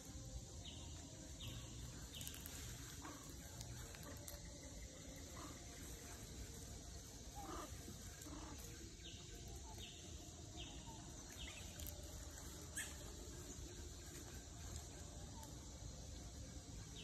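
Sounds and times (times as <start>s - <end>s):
steady forest hiss: 0.0s - 17.0s.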